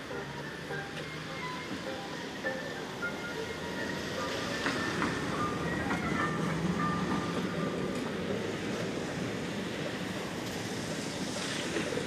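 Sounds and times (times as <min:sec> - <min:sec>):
passing street traffic: 0:00.0 - 0:12.0.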